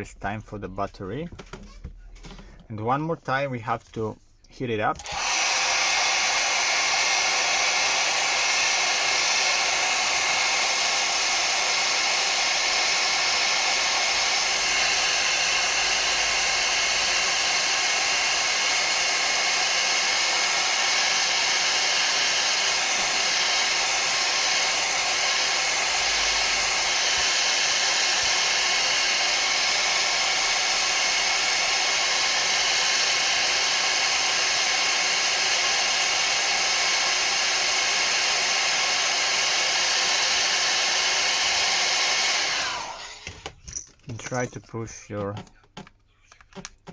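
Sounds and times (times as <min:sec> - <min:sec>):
hair dryer blowing: 0:05.0 - 0:43.6.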